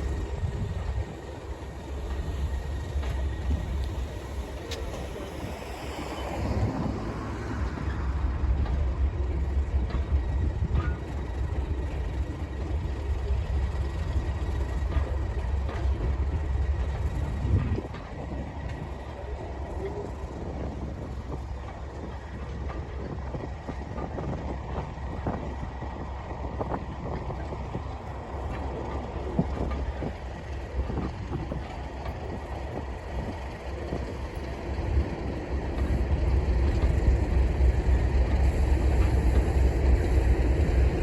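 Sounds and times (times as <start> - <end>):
diesel locomotive engine rumbling: 0.0 - 41.0.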